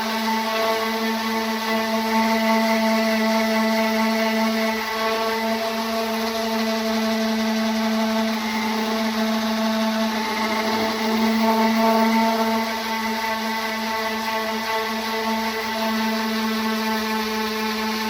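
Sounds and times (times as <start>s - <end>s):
electric orbital sander running: 0.0s - 18.0s.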